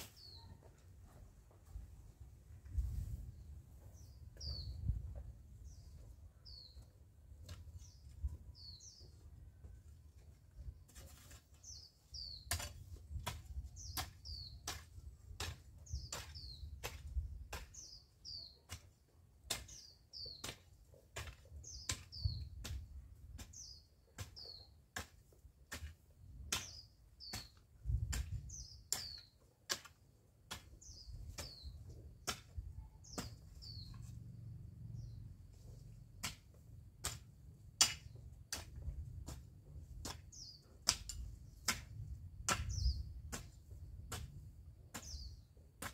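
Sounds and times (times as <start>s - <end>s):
hoe chopping dry soil: 4.0s - 9.1s, 10.6s - 34.1s, 35.0s - 45.9s.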